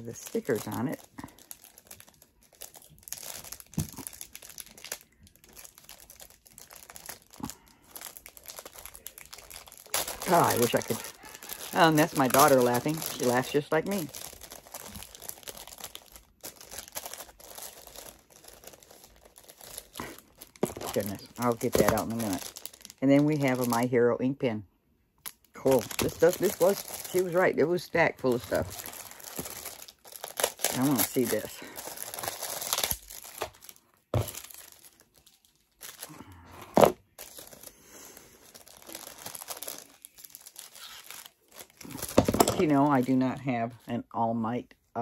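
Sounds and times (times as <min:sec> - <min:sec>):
packaging crinkling and rustling: 0:00.0 - 0:24.0, 0:25.2 - 0:43.4.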